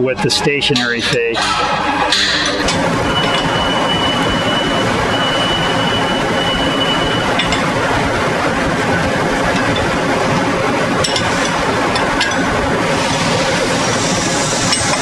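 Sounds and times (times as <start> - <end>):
factory machine noise: 0.0 - 15.0.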